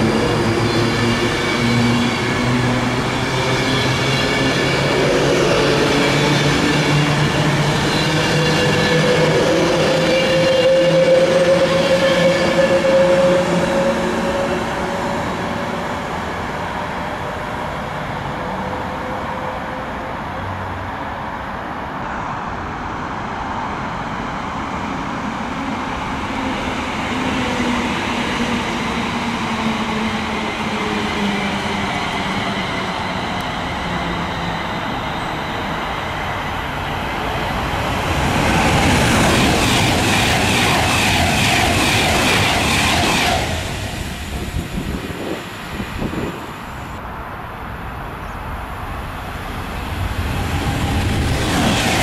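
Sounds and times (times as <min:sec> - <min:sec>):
electric train low whine: 0:00.0 - 0:52.0
electric train rushing past: 0:00.0 - 0:52.0.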